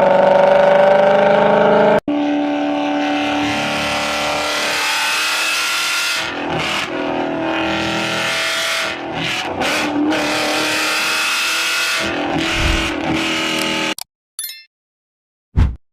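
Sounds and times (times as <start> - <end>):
car engine revving: 0.0 - 13.9.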